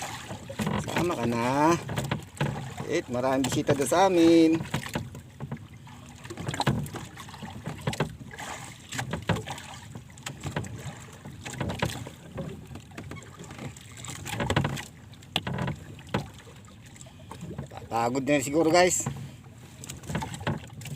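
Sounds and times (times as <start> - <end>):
water splashing against boat hull: 0.0 - 20.9.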